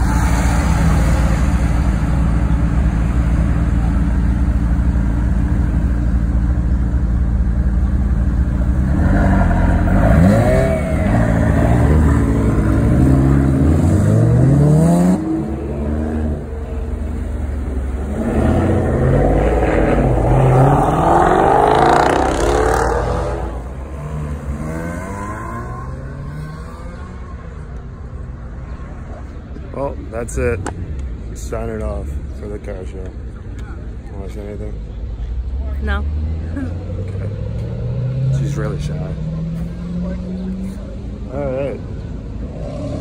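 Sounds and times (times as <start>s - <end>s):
car engines revving hard: 0.0s - 32.4s, 35.4s - 43.0s.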